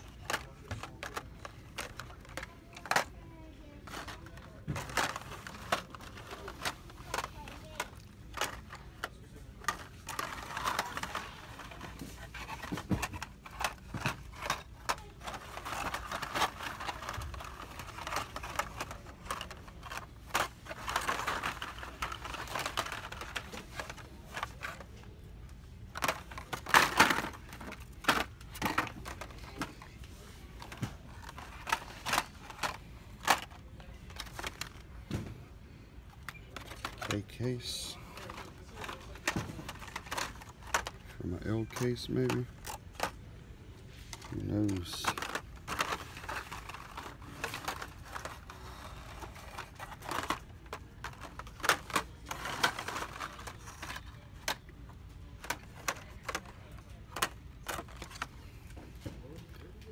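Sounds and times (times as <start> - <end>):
cardboard packages clacking and rustling: 0.0 - 25.0, 25.8 - 43.2, 44.0 - 59.9
packages clattering: 0.0 - 59.9.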